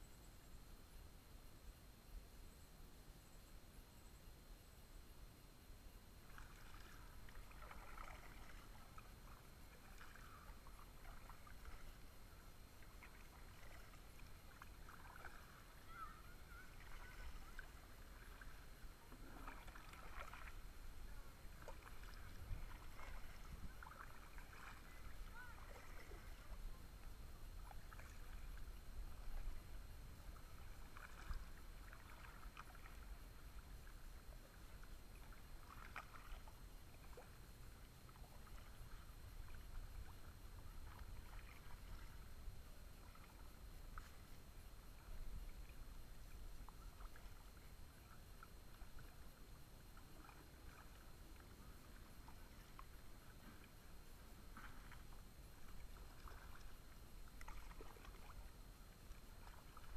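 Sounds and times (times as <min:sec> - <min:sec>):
paddle dips: 0:06.2 - 0:59.9
water lapping at hull: 0:06.2 - 0:59.9.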